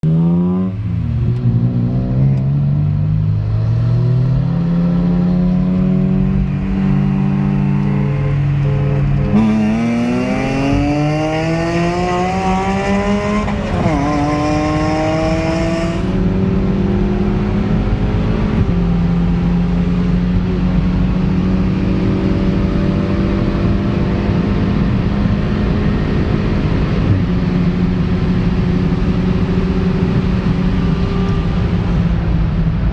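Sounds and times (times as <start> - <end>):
car engine accelerating: 0.0 - 32.9.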